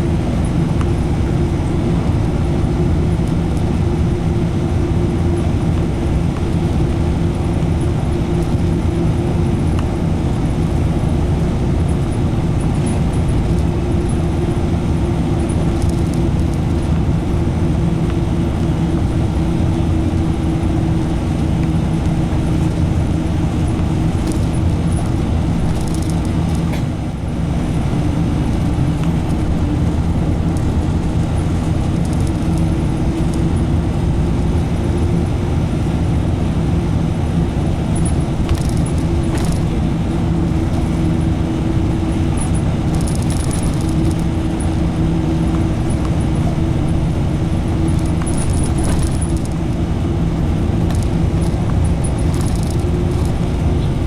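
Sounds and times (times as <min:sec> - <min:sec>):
bus engine drone: 0:00.0 - 0:54.0
road noise: 0:00.0 - 0:54.0
light rattles: 0:00.3 - 0:35.1, 0:35.9 - 0:54.0.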